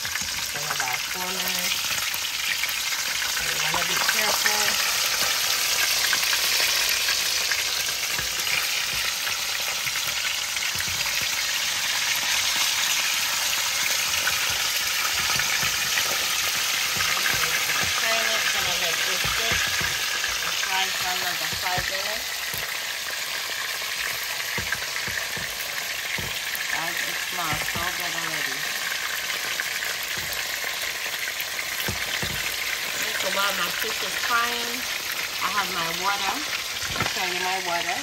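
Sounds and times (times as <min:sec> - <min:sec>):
fish frying in hot oil: 0:00.0 - 0:38.0.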